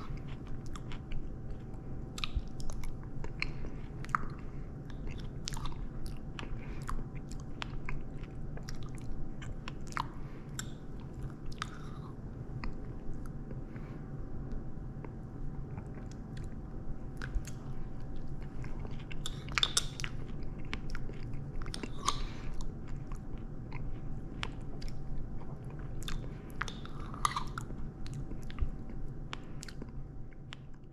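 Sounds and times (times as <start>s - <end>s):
person chewing: 0.0s - 30.8s.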